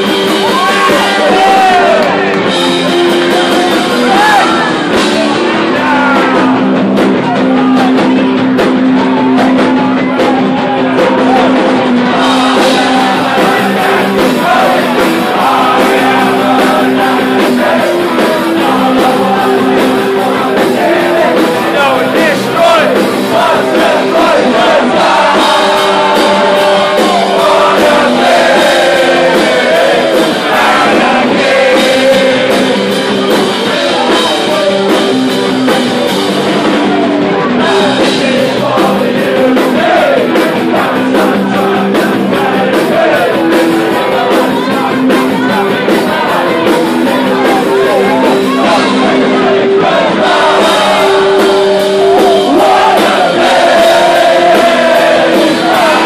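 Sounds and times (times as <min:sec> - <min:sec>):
electric guitar chords: 0:00.0 - 0:56.0
lead vocal singing: 0:00.0 - 0:56.0
live punk rock band: 0:00.0 - 0:56.0.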